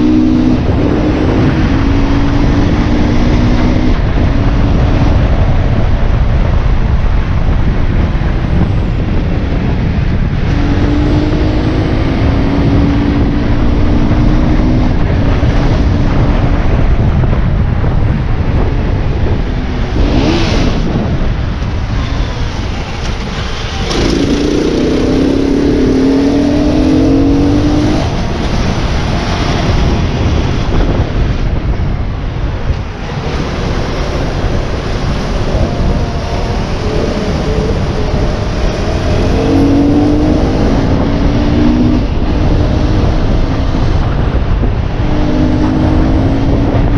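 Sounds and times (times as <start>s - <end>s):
motorbike engine accelerating: 0.0s - 46.9s
wind rush on microphone: 0.0s - 46.9s.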